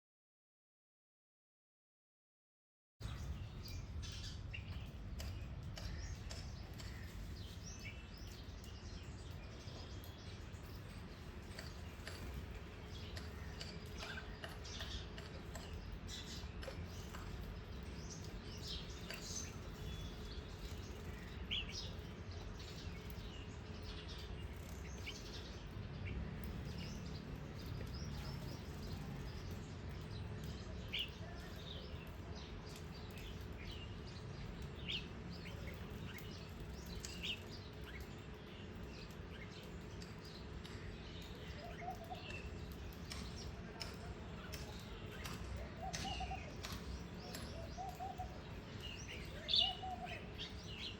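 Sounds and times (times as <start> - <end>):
small birds chirping: 3.0 - 50.9.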